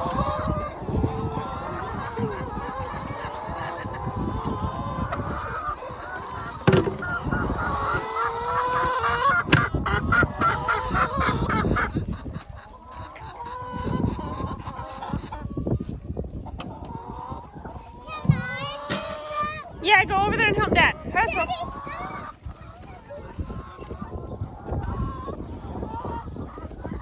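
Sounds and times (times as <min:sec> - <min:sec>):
hens calling and squawking: 0:00.0 - 0:27.0.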